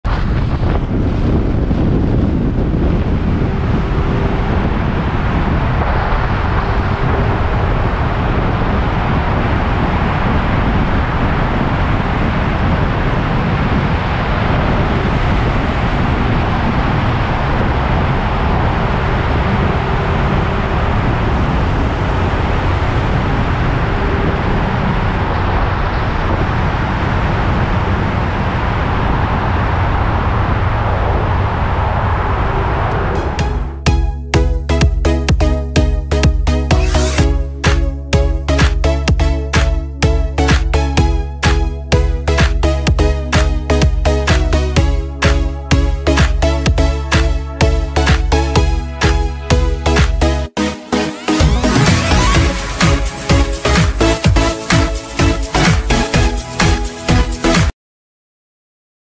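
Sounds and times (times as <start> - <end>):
wind rushing over microphone: 0.0 - 50.6.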